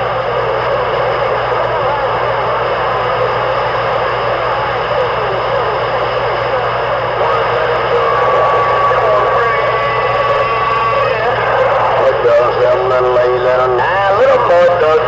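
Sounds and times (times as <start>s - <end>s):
garbled radio transmissions: 0.0s - 15.0s
low hum: 0.0s - 15.0s
radio static hiss: 0.0s - 15.0s.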